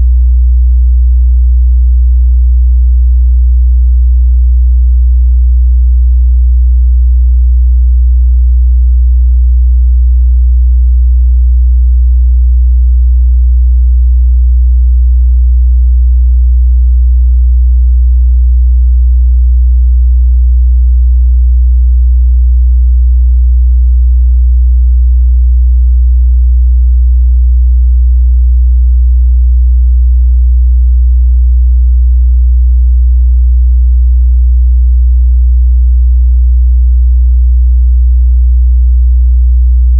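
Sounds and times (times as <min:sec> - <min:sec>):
low sine-wave test tone: 0:00.0 - 0:37.4.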